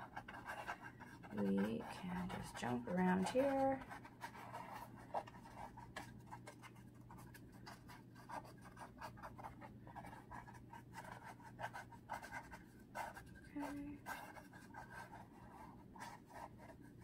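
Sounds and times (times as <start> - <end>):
paintbrush dabbing on canvas: 0.0 - 17.0.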